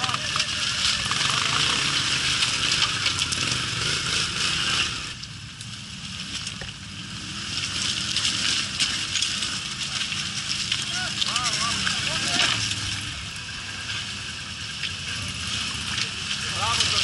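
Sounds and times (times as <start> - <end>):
quad engines at low revs: 0.0 - 17.0.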